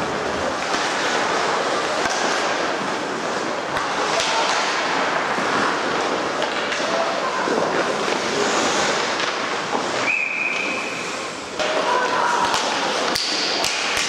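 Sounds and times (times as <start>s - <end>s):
ice skates scraping on ice: 0.0s - 14.0s.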